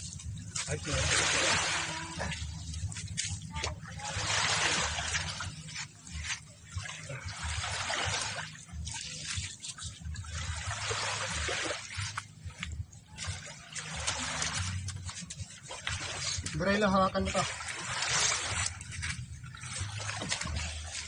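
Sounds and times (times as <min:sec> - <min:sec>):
small waves washing on sand: 0:00.0 - 0:21.0.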